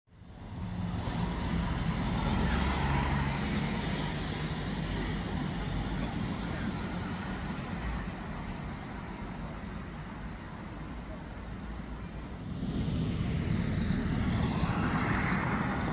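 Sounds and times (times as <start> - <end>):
road noise: 0.1 - 15.9.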